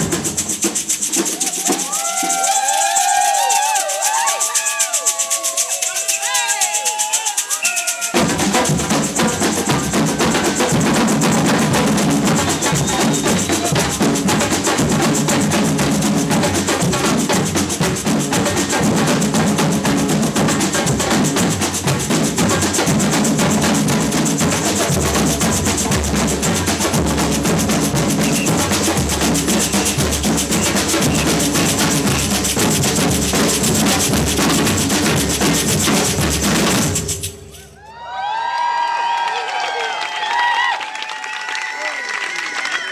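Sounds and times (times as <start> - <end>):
samba percussion band drumming: 0.0 - 37.8.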